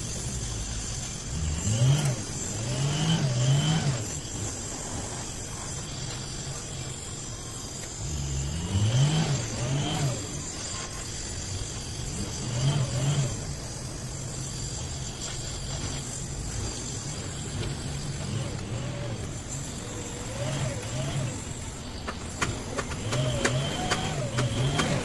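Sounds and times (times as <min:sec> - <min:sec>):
vehicle engines revving: 0:00.0 - 0:25.0
welding torch flame hissing: 0:00.0 - 0:25.0.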